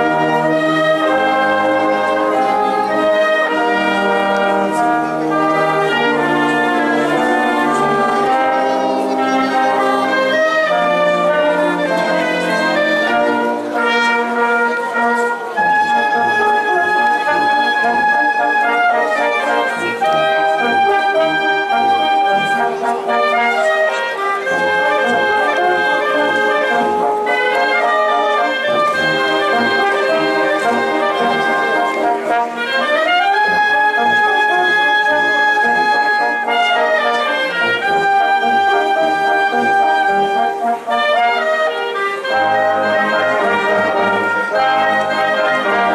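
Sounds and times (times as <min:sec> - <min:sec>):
wind band playing: 0:00.0 - 0:45.9.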